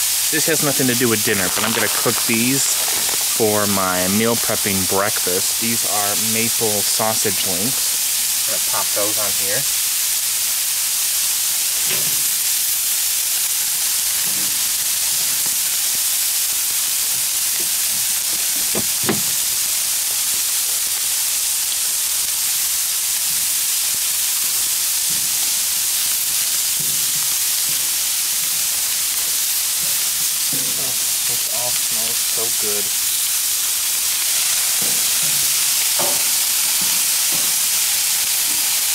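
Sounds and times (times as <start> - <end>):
vegetables and sausages sizzling on griddle: 0.0 - 38.9.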